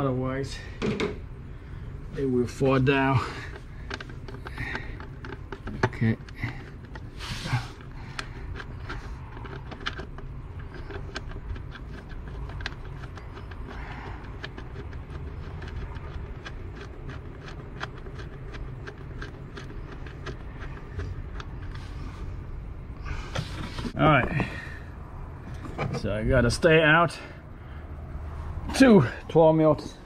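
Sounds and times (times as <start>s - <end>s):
low background rumble: 0.0s - 30.0s.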